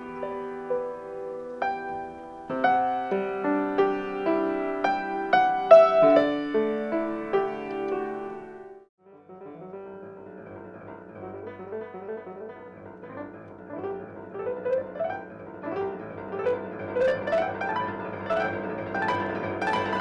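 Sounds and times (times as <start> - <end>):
solo piano classical piece: 0.0 - 20.0.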